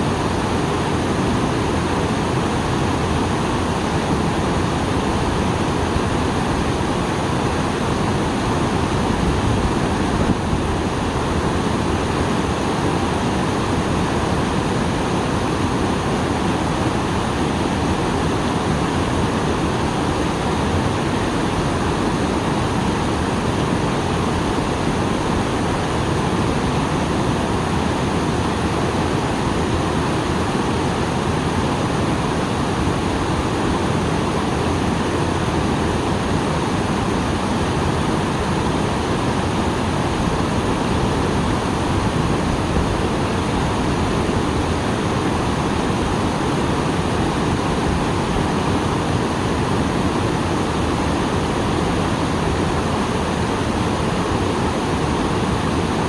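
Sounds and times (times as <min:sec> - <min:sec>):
water rushing over waterfall: 0:00.0 - 0:56.0.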